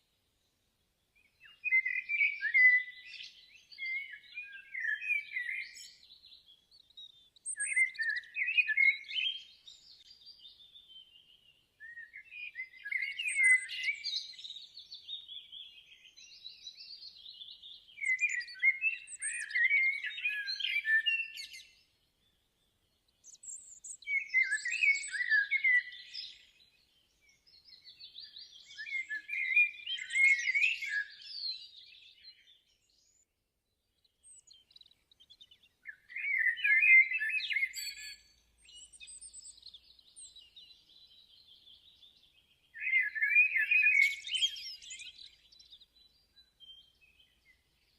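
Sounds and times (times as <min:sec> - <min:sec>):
bird singing chirps and trills: 0:00.0 - 0:47.9.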